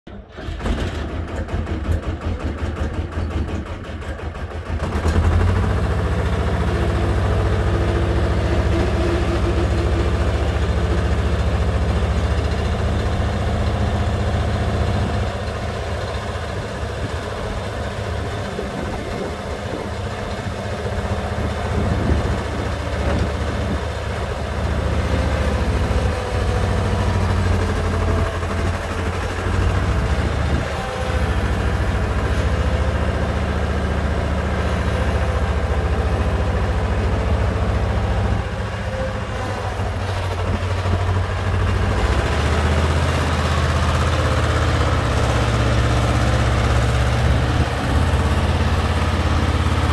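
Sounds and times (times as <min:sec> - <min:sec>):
skid steer diesel engine running: 0:00.1 - 0:49.9.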